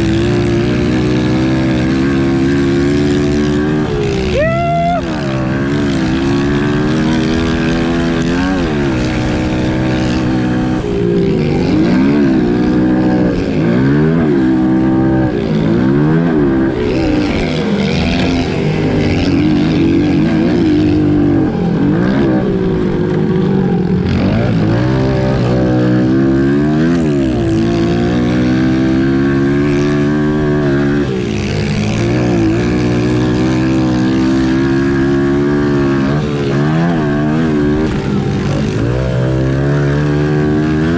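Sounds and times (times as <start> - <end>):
pit bike engines revving: 0.0 - 40.9.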